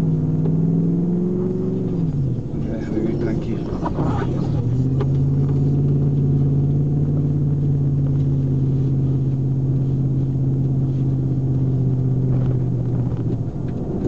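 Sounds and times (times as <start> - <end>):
engine droning inside cab: 0.0 - 14.0.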